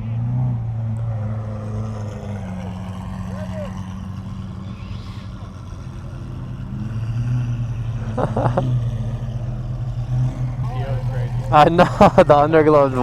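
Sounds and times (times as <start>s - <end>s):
low hum: 0.0s - 13.0s
vehicle engines running: 0.0s - 13.0s.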